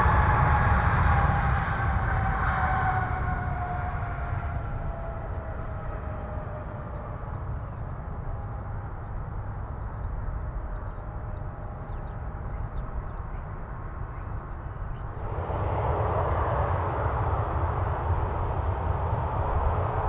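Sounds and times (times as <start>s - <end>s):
jet engine rush and rumble: 0.0s - 20.0s.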